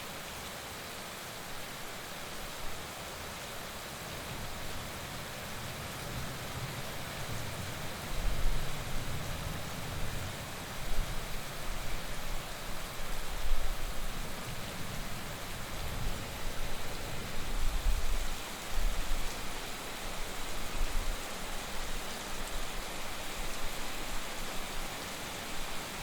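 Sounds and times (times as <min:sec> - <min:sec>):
heavy rain falling: 0:00.1 - 0:26.0.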